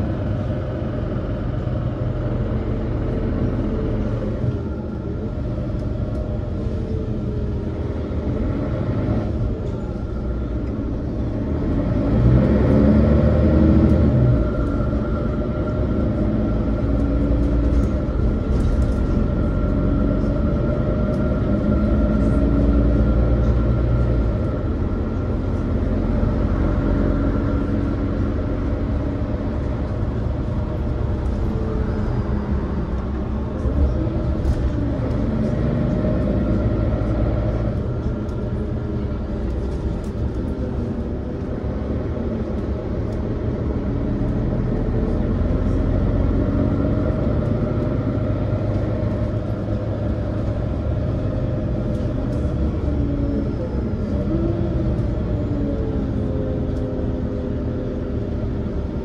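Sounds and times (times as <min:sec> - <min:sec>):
bus engine and road rumble: 0:00.0 - 0:59.0
drivetrain whine: 0:00.0 - 0:59.0.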